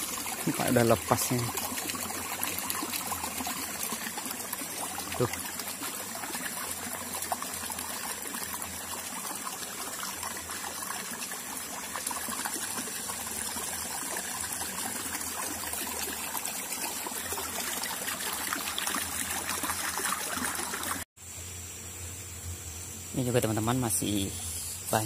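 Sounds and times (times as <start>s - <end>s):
stream trickling: 0.0s - 21.1s.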